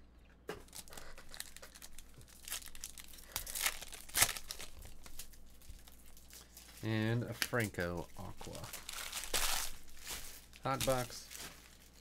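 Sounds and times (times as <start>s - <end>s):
foil wrappers crinkling and tearing: 0.6s - 12.0s
cards being handled: 2.3s - 12.0s.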